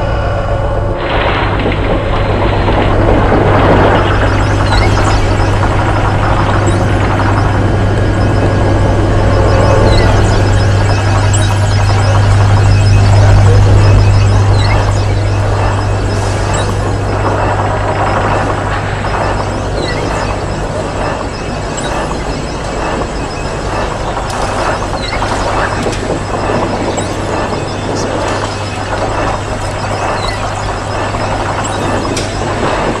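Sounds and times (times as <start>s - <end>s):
rushing noise texture: 0.0s - 33.0s
steady low hum: 0.0s - 33.0s.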